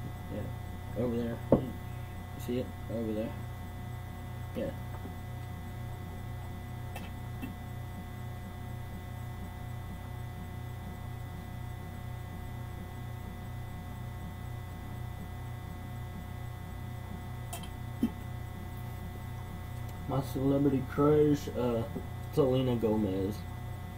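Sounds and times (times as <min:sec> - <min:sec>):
steady electrical hum: 0:00.0 - 0:23.9.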